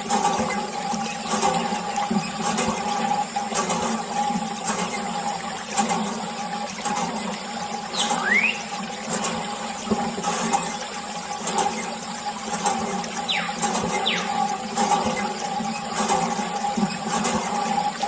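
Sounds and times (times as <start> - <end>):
pump hum: 0.0 - 18.0
water running and splashing: 0.0 - 18.0.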